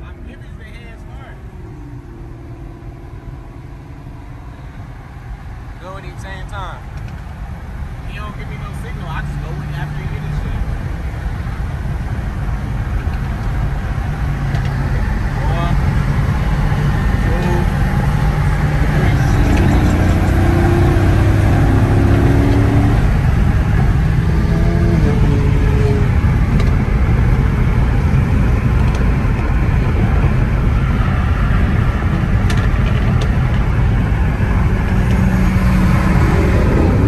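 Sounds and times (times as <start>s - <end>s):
car engine drone: 0.0s - 37.0s
in-cabin road noise: 0.0s - 37.0s.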